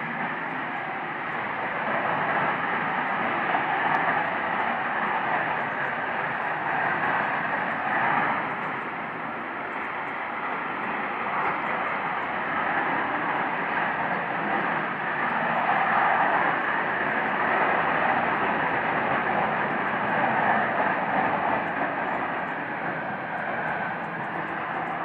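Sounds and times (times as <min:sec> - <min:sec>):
loud jet-like noise from sky: 0:00.0 - 0:25.0.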